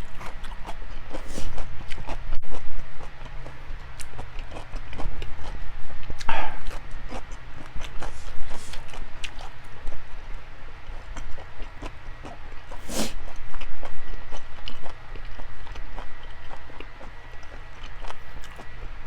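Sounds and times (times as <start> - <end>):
chewing food with mouth clicks: 0.0 - 18.9
low steady hum: 0.0 - 19.0.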